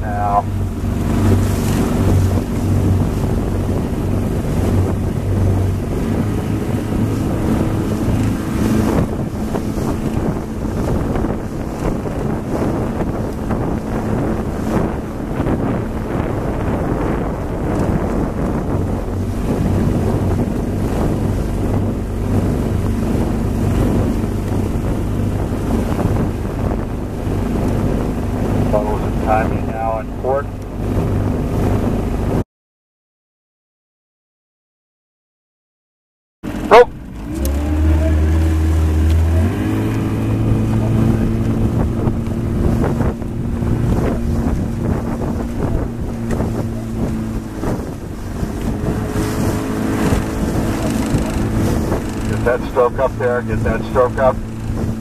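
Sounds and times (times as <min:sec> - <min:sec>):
outboard motor humming: 0:00.0 - 0:32.4, 0:36.4 - 0:55.0
water rushing past hull: 0:00.0 - 0:32.4, 0:36.4 - 0:55.0
wind on microphone: 0:00.0 - 0:32.4, 0:36.4 - 0:55.0.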